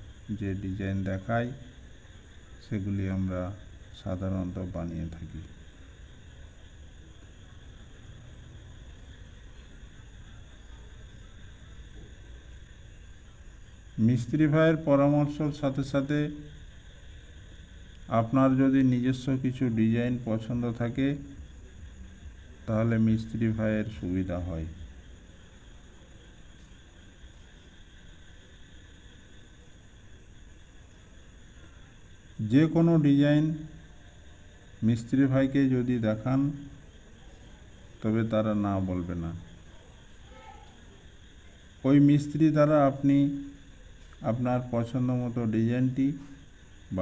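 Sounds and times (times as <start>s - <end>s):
faint background hiss: 0.0s - 47.0s
faint steady background noise: 0.0s - 47.0s.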